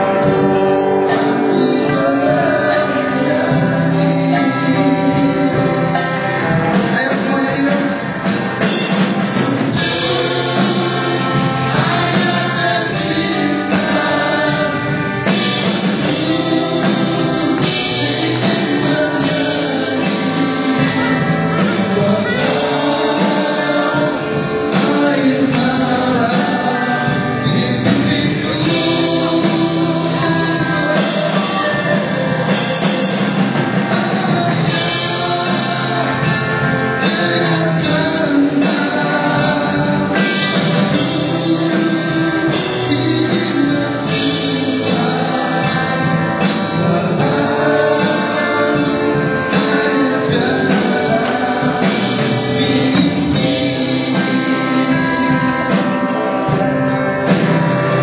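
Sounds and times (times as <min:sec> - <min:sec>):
amplified band with electric guitars: 0:00.0 - 0:58.0
people singing together: 0:00.0 - 0:58.0.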